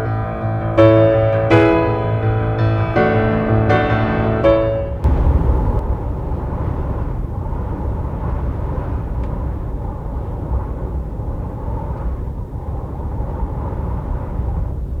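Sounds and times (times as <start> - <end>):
storm wind rumbling: 0.0 - 15.0.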